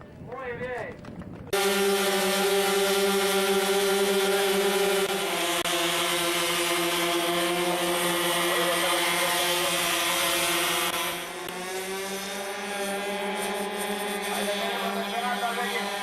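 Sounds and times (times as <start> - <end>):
model aircraft engine droning: 1.5 - 16.0.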